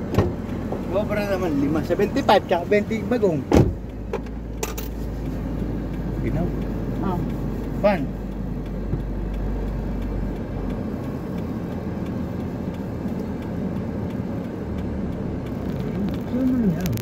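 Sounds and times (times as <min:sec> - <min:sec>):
car engine hum from inside cabin: 0:00.0 - 0:17.0.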